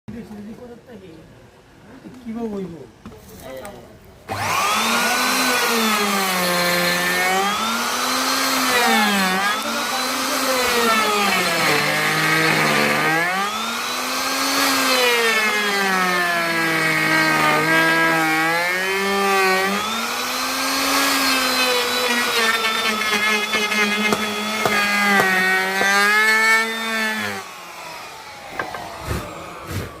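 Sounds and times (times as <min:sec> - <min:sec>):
drilling machine boring wood: 0:04.3 - 0:29.9.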